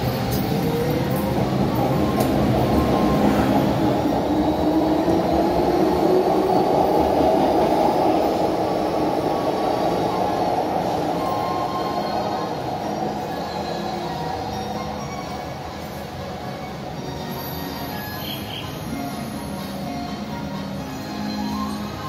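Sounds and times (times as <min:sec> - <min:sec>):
train passing at close range: 0:00.0 - 0:22.0.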